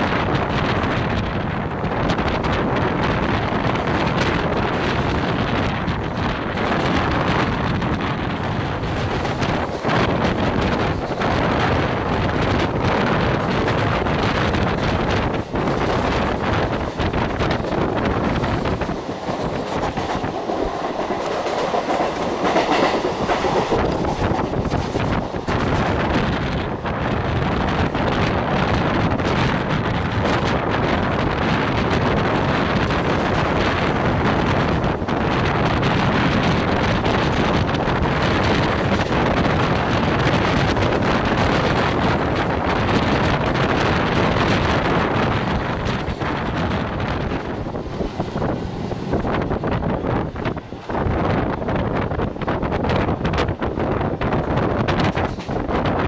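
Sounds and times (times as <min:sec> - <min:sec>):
train wheels rumbling on track: 0:00.0 - 0:56.0
wind buffeting microphone: 0:00.0 - 0:56.0.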